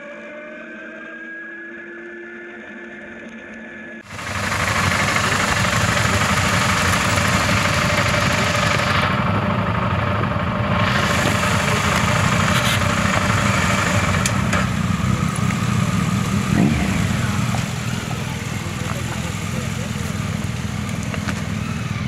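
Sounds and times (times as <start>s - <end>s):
electric motorcycle whine: 4.0s - 22.0s
motorcycle engines rumbling: 4.0s - 22.0s.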